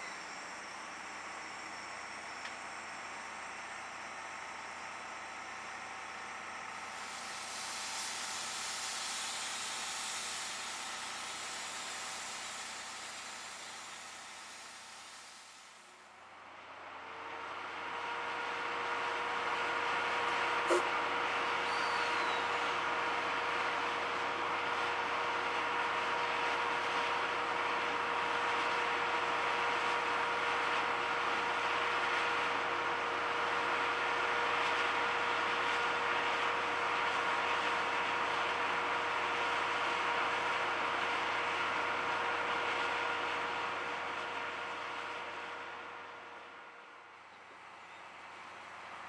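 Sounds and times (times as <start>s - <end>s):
steam locomotive blowing off steam: 0.0s - 15.9s, 20.6s - 46.0s.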